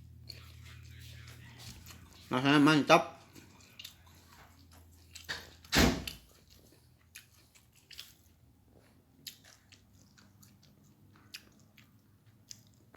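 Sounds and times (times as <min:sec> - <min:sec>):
person chewing and crunching: 0:00.0 - 0:12.9.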